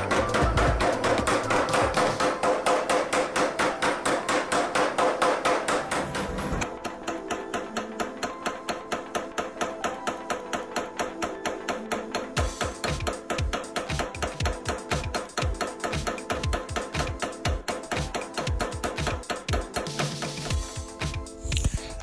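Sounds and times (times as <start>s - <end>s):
power hammer striking hot metal: 0.0s - 20.4s.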